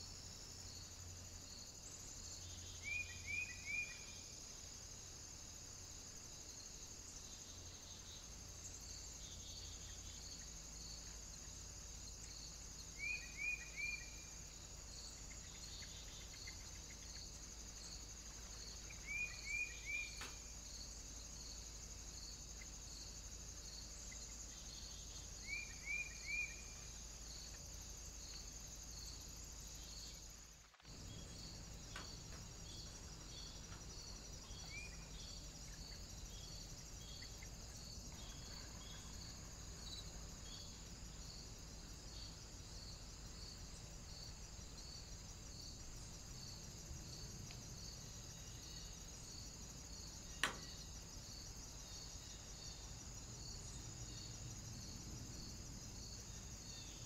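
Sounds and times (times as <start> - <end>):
constant high hiss: 0.0 - 57.0
insects chirping: 0.0 - 57.0.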